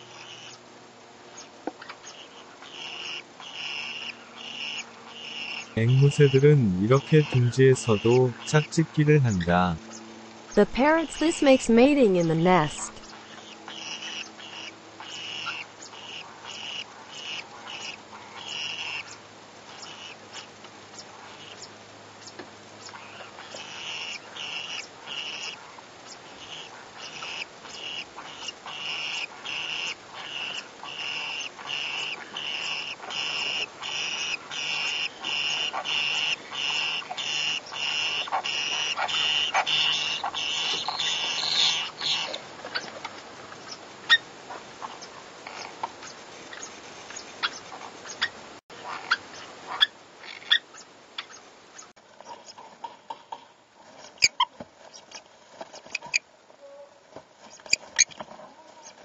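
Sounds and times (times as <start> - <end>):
conures mating calls: 0.0 - 0.7, 1.3 - 53.4.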